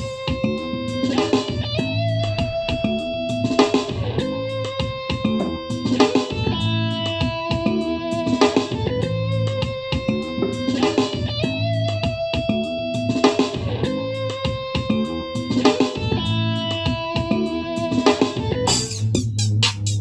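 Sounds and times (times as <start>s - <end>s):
electric guitar: 0.0s - 19.1s
bright electronic music: 0.0s - 20.0s
drums: 0.0s - 20.0s
music from bluetooth speaker: 0.0s - 20.0s.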